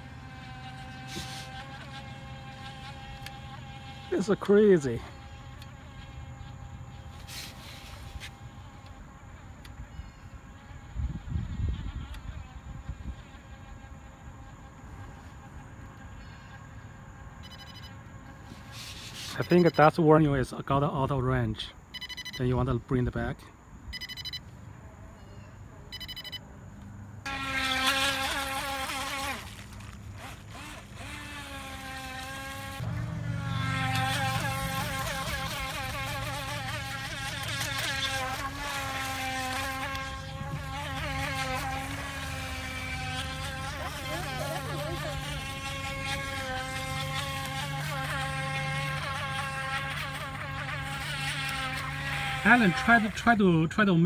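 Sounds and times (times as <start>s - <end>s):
toy boat motor whining: 0.0s - 20.0s, 23.9s - 24.4s, 25.9s - 26.4s, 27.2s - 53.4s.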